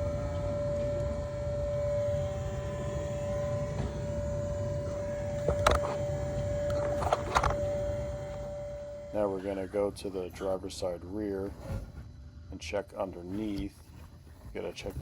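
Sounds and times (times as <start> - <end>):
smoke machine humming whine: 0.0 - 15.0.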